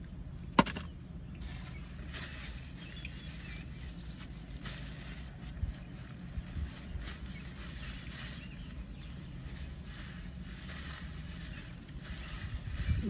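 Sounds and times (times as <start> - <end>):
low rumble of breeze: 0.0 - 13.0
paper napkin rustling: 1.4 - 13.0.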